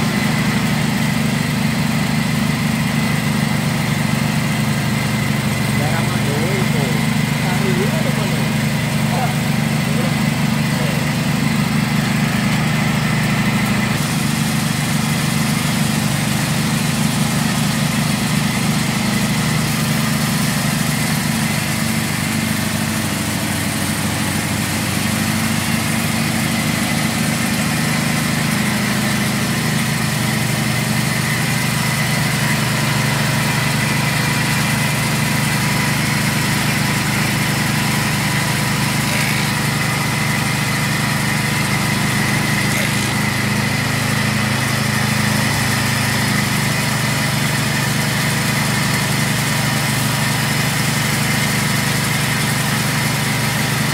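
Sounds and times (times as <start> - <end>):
motorised grinder humming: 3.5 - 16.8, 18.2 - 53.9.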